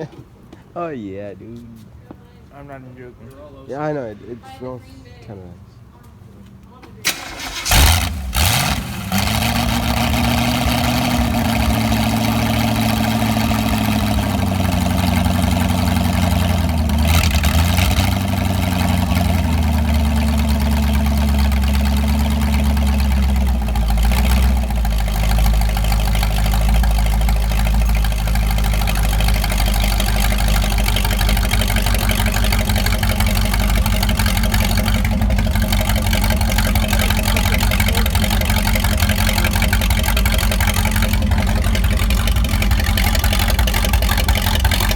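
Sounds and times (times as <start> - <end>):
car engine starting and idling: 6.9 - 44.9.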